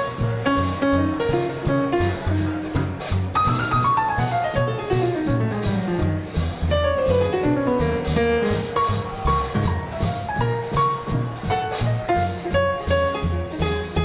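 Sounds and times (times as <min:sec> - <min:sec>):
swing jazz band playing: 0:00.0 - 0:14.0.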